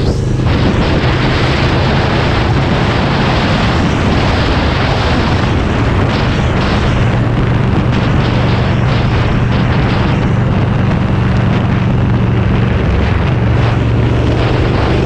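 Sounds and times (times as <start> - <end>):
motorcycle engine drone: 0.0 - 15.0
wind rush over microphone: 0.0 - 15.0.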